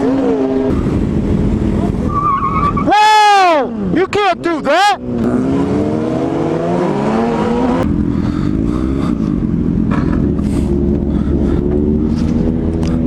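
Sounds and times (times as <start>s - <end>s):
motorcycle engine accelerating: 0.0s - 2.8s, 5.0s - 13.0s.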